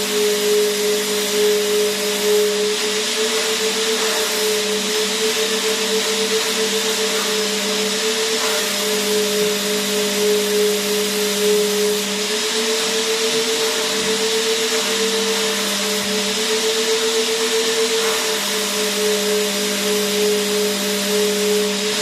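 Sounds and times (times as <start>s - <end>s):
vacuum cleaner motor running: 0.0s - 22.0s.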